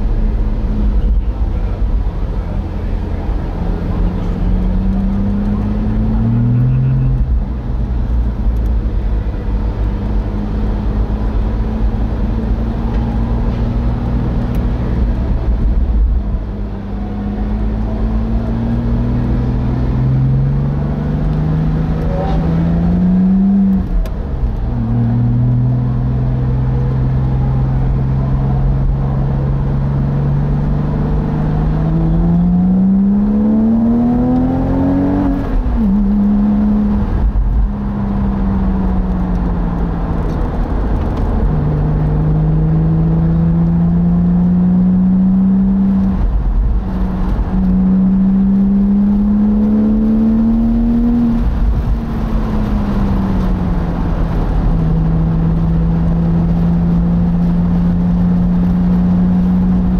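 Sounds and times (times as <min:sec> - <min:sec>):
car engine pulling through upshifts: 0:00.0 - 0:59.9.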